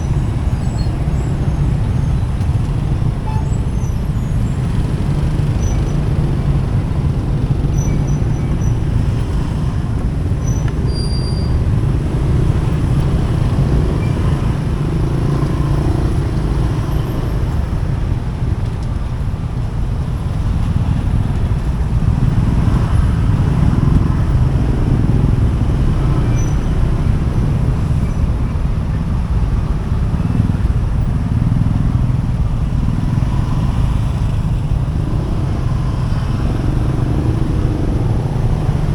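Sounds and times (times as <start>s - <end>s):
motorcycle engine and tyre noise: 0.0s - 38.9s
passing cars and motorbikes: 0.0s - 38.9s.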